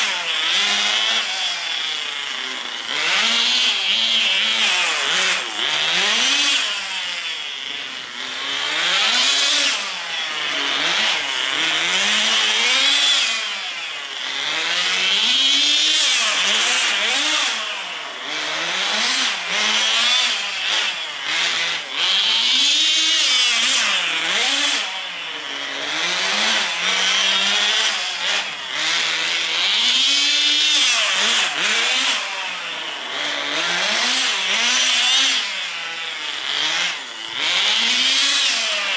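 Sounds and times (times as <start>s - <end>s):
rc car engine revving: 0.0s - 38.9s.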